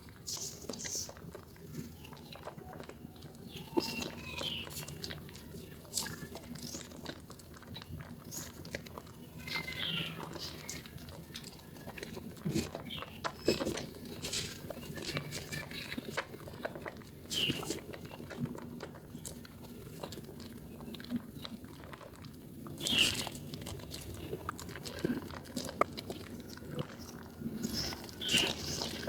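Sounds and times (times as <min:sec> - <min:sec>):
wet soap squishing: 0:00.0 - 0:29.0.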